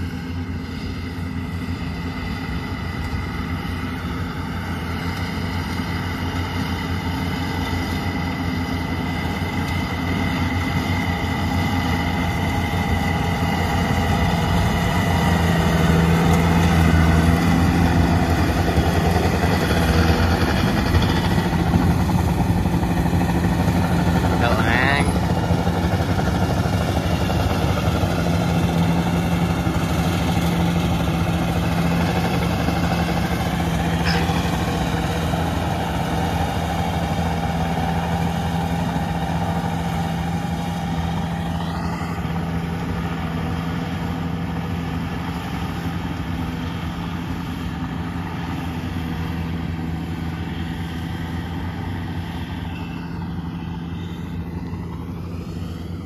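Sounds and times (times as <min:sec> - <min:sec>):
combine harvester engine hum: 0:00.0 - 0:56.0.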